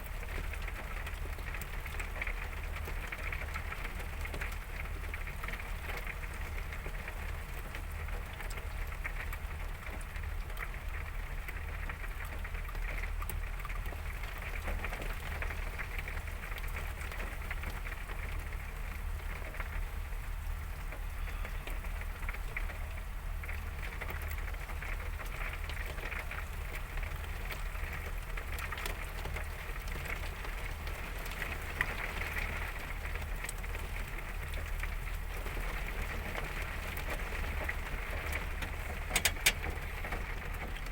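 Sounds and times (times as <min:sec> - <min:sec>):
heavy rain on surfaces: 0:00.0 - 0:40.9.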